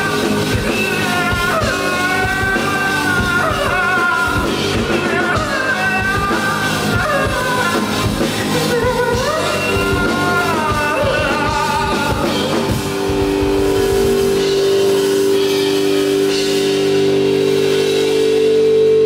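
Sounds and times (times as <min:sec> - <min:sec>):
person singing: 0:00.0 - 0:15.3
live rock band: 0:00.0 - 0:19.0.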